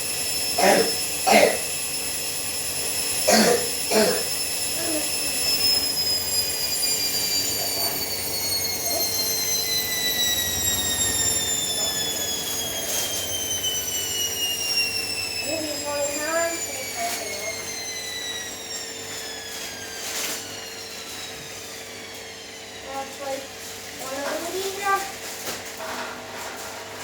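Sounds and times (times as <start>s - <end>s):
washing machine spin whine: 0.0s - 27.0s.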